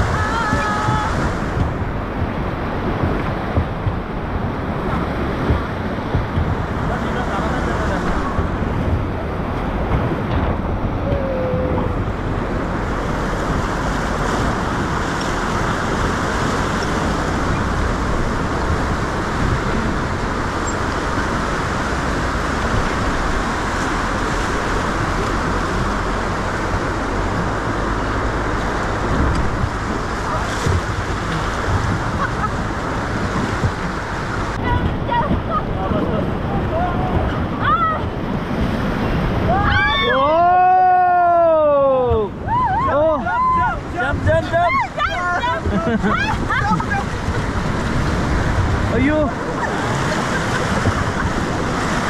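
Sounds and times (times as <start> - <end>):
whitewater rapids rushing: 0.0 - 52.0
wind rumble on microphone: 0.0 - 52.0.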